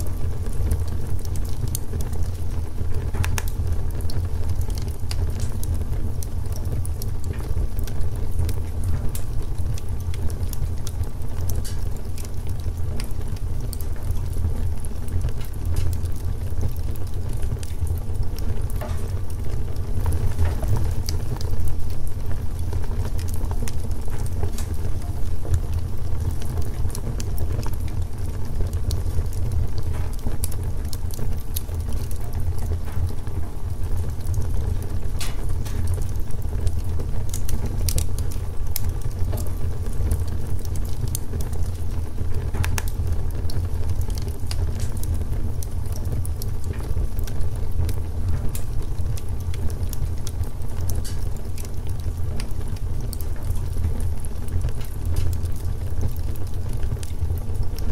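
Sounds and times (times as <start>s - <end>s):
logs crackling and popping: 0.0s - 57.9s
low rumble of flames: 0.0s - 57.9s.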